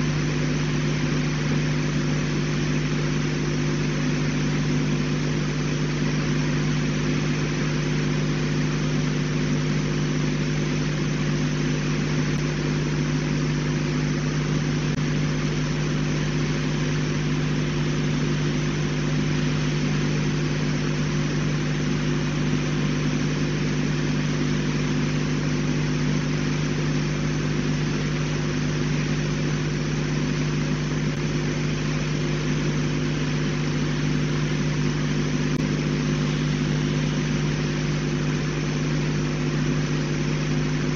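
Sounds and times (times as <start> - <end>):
steady machine hum: 0.0 - 40.9.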